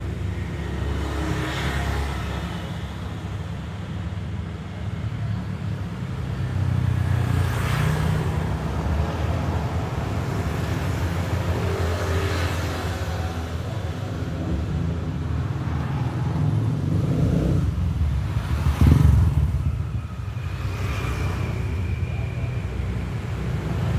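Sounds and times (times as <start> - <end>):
traffic rumble: 0.0 - 23.9
vehicles passing by: 0.0 - 23.9.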